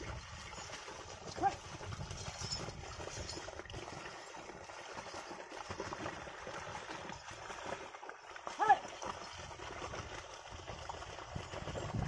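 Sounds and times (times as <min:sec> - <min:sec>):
hooves sloshing in mud: 0:00.0 - 0:12.0.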